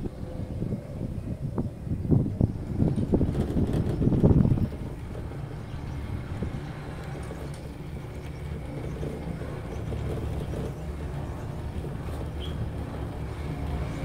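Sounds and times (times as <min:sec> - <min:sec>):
cable car cabin rumble: 0:00.0 - 0:14.0.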